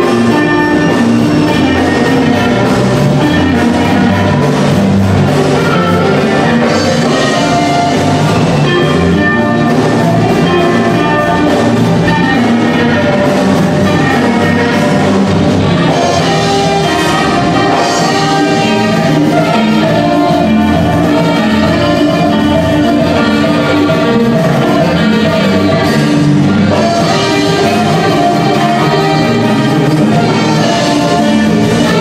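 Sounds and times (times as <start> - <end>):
dance music with brass horns: 0.0 - 32.0.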